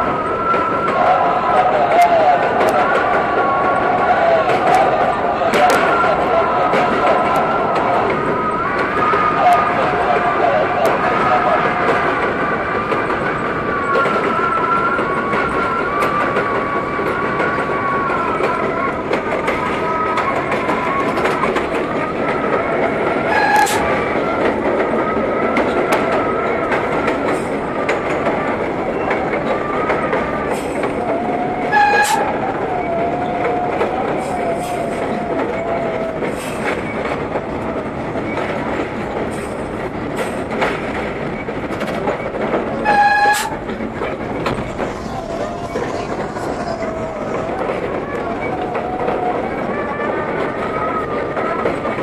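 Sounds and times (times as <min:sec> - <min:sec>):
subway train rolling rumble: 0:00.0 - 0:52.0.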